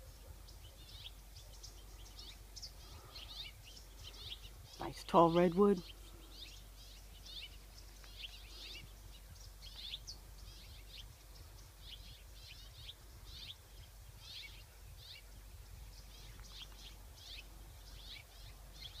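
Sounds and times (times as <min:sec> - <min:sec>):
faint low rumble: 0:00.0 - 0:19.0
small birds chirping: 0:00.0 - 0:19.0.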